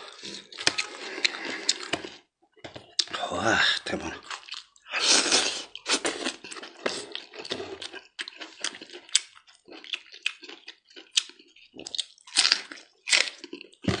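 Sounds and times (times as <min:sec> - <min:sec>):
wet chewing and lip-smacking: 0:00.1 - 0:02.2, 0:04.2 - 0:14.0.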